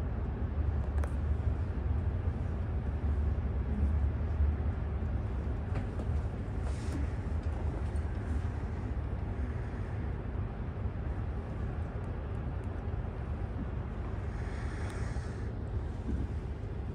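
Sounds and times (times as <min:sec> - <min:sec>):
train rumble inside passenger car: 0:00.0 - 0:16.9.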